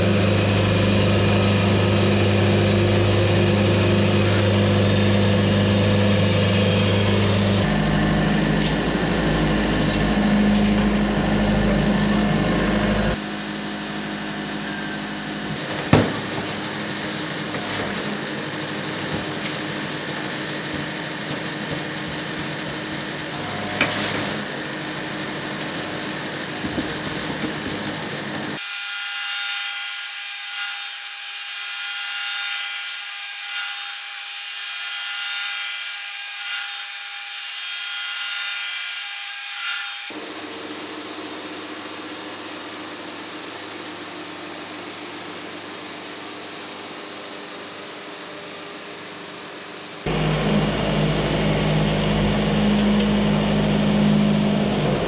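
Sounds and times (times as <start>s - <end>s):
band saw cutting log: 0.0s - 40.3s, 50.0s - 55.0s.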